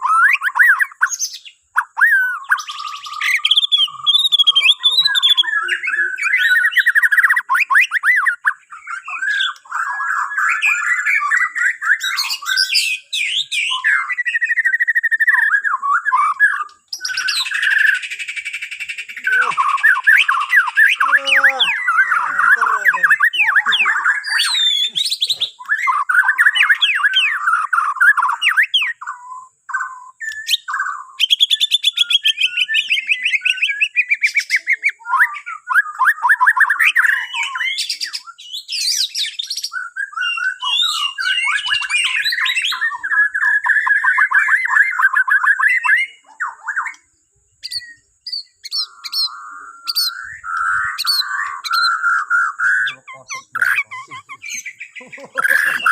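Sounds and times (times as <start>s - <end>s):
bird singing trills and whistles: 0.0s - 55.9s.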